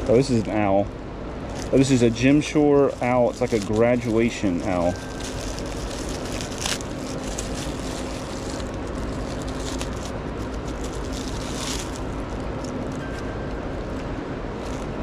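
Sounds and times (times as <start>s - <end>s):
bubble wrap crinkling: 0.0s - 0.8s, 1.4s - 15.0s
faint hum: 0.0s - 15.0s.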